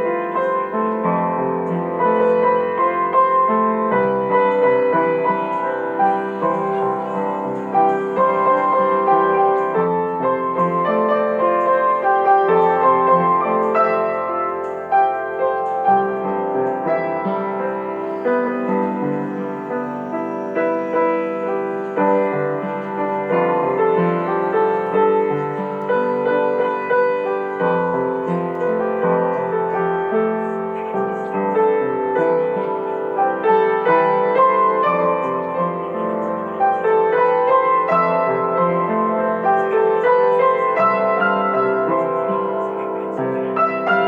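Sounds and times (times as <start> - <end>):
piano music: 0.0 - 44.0.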